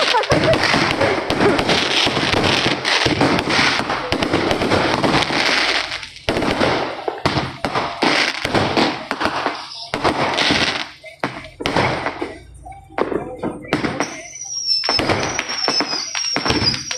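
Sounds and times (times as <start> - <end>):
firecrackers crackling: 0.0 - 16.9.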